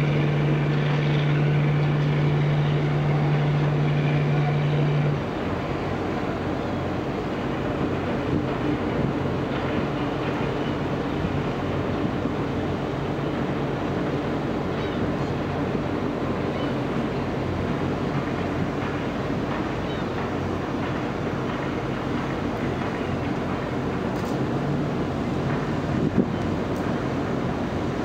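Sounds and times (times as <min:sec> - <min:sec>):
boat engines: 0:00.0 - 0:28.0.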